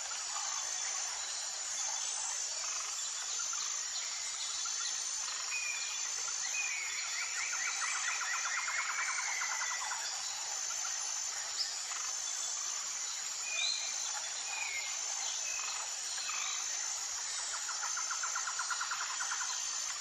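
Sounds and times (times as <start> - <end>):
background insect noise: 0.0 - 20.0
high insect trill: 0.0 - 20.0.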